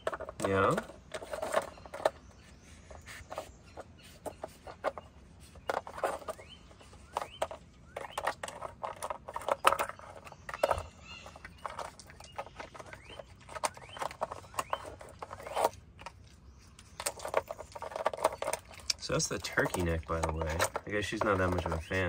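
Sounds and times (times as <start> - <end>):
plastic puzzle cups clacking: 0.0 - 22.0.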